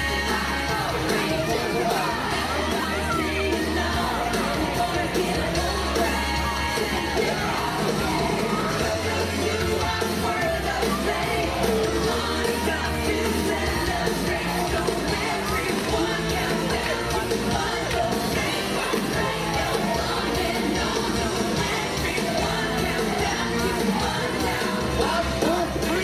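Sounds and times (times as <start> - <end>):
upbeat parade music with singing: 0.0 - 26.0.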